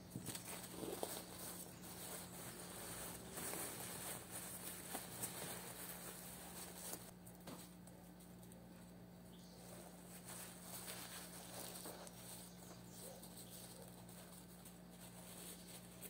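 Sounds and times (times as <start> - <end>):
wrapping paper crinkling: 0.0 - 8.2, 9.6 - 16.0.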